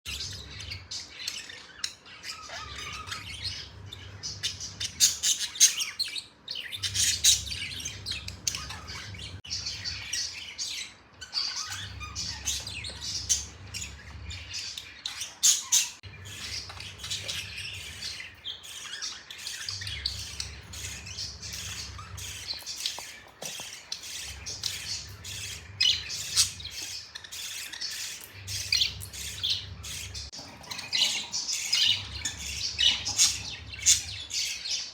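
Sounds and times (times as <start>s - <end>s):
budgerigars chattering and squawking: 0.1s - 34.9s.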